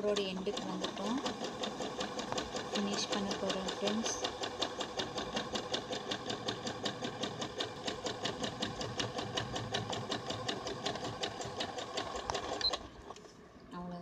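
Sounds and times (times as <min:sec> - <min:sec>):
sewing machine stitching: 0:00.0 - 0:13.3.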